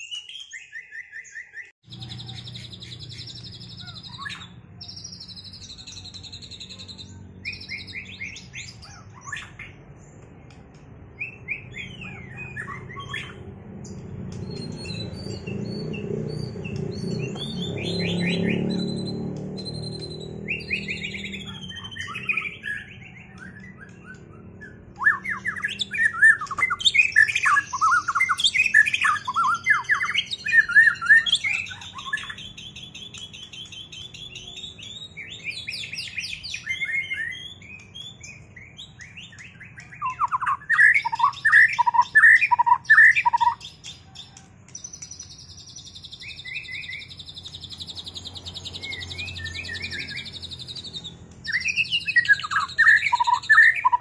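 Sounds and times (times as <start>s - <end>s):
songbird whistling and trilling: 0.0s - 10.2s, 11.1s - 54.0s.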